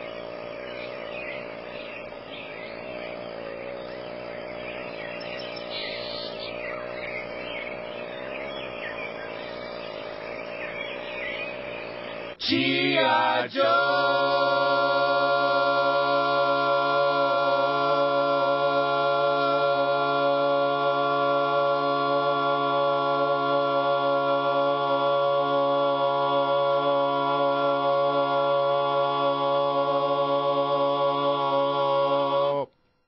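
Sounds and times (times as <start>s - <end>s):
held chant-like vocal note: 0.0s - 33.0s.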